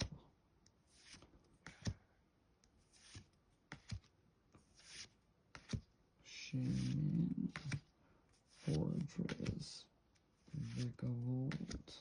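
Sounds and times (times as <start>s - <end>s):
trading cards being handled: 0.7s - 2.1s, 2.7s - 5.9s, 6.6s - 12.0s.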